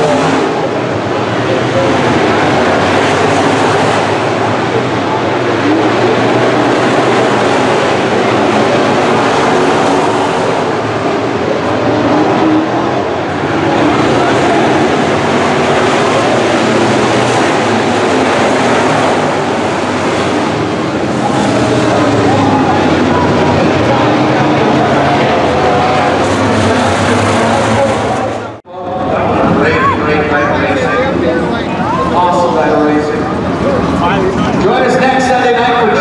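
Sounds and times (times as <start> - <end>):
race car engines roaring: 0.0 - 36.0.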